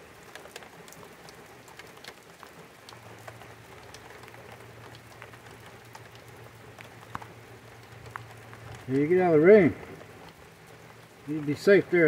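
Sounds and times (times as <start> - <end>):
rain hissing on gravel: 0.0 - 12.0
raindrops ticking: 0.0 - 12.0.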